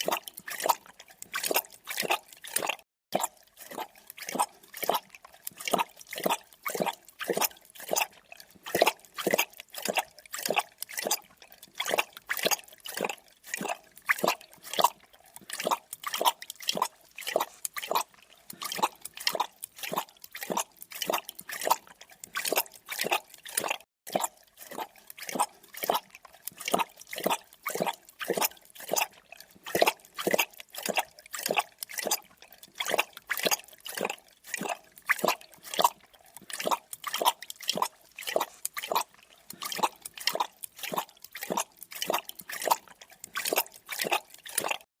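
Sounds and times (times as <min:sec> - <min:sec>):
animal lapping water: 0:00.0 - 0:44.9.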